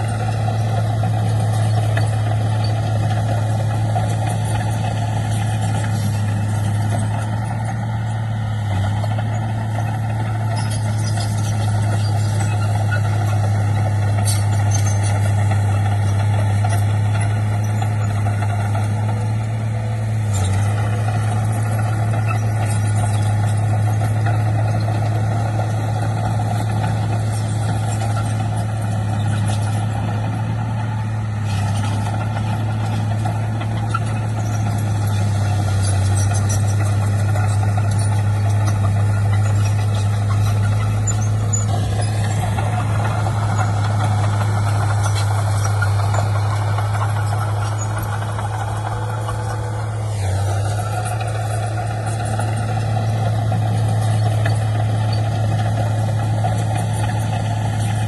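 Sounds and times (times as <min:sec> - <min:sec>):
diesel machinery drone: 0:00.0 - 0:58.0.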